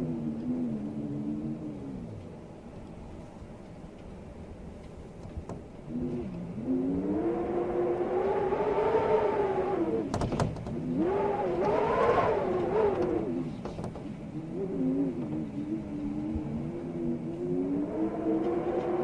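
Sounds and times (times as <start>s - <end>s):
storm wind howling: 0.0s - 19.0s.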